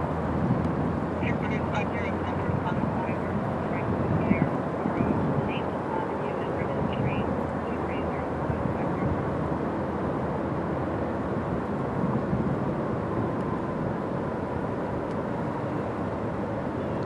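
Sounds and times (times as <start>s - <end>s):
distant engine rumble: 0.0s - 17.0s.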